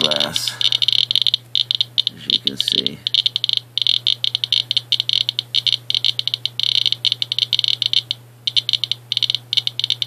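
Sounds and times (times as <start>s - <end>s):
geiger counter clicks: 0.0s - 10.0s.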